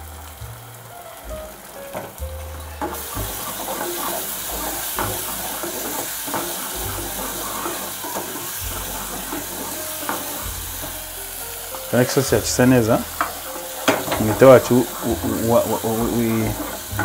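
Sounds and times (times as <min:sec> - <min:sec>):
background music with bass: 0:00.0 - 0:03.6, 0:04.2 - 0:17.0
spices sizzling in oil: 0:00.0 - 0:17.0
wooden spoon scraping a pan: 0:01.9 - 0:17.0.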